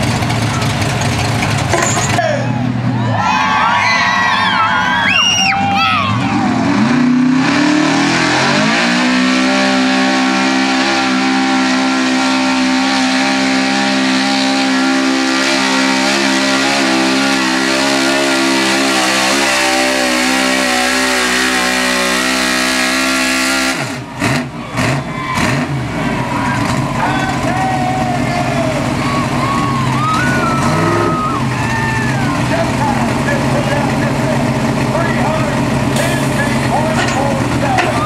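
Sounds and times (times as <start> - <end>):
pickup truck engine revving: 0.0 - 3.0, 4.6 - 38.0.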